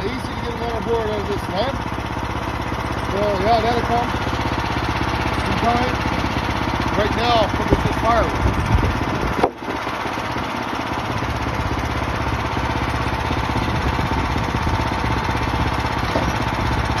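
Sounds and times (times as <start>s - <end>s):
small gas engine running: 0.0s - 17.0s.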